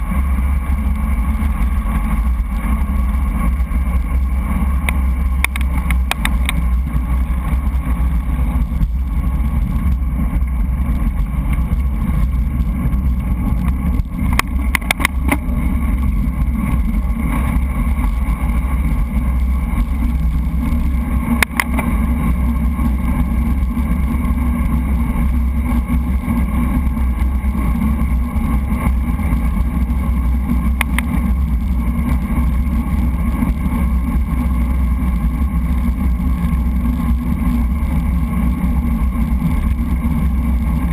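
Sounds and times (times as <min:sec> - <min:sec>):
road and tyre noise: 0:00.0 - 0:40.9
wind rumble on microphone: 0:00.0 - 0:40.9.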